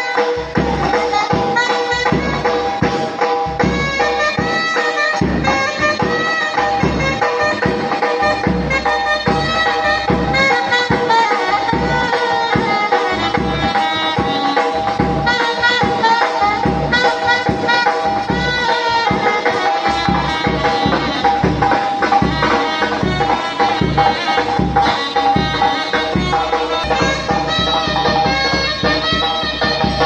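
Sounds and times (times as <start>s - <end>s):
drum beats: 0.0s - 30.0s
reedy melody: 0.0s - 30.0s.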